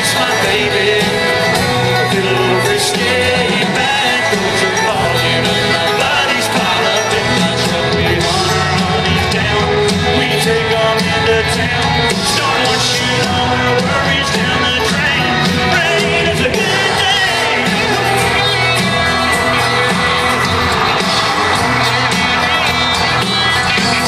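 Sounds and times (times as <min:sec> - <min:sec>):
country band playing live: 0:00.0 - 0:24.0
crowd shouting: 0:00.0 - 0:24.0
person singing: 0:00.0 - 0:24.0.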